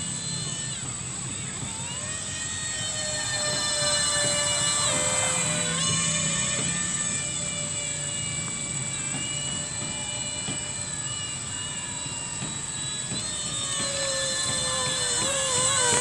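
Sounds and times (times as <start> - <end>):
model plane motor whining: 0.0 - 16.0.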